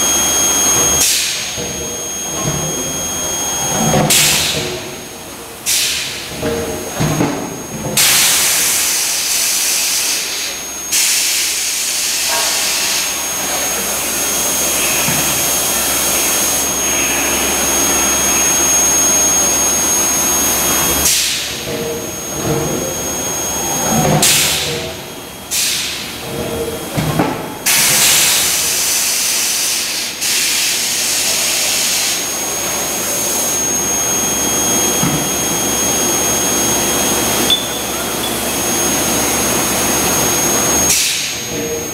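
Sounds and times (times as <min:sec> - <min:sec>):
high-pitched induction whine: 0:00.0 - 0:41.9.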